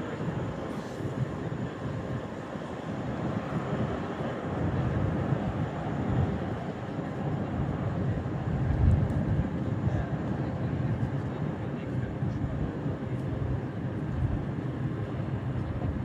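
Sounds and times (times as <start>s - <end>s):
jet airliner flying past: 0.0s - 16.0s.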